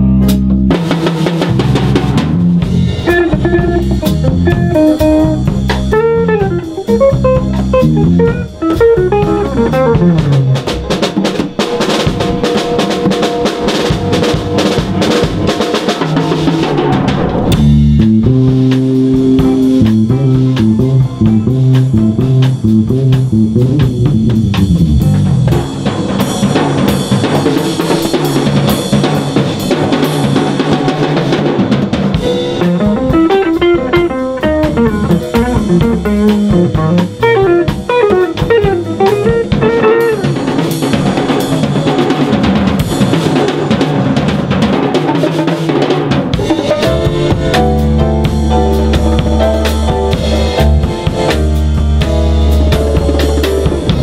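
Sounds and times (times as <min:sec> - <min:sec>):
drum kit snare and cymbals: 0:00.0 - 0:54.0
electric guitar notes: 0:01.4 - 0:43.4, 0:45.4 - 0:54.0.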